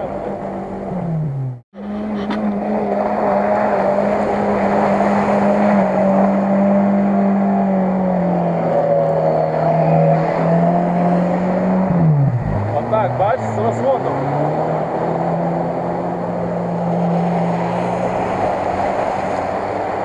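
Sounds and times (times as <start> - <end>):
engine at high revs: 0.0 - 20.0.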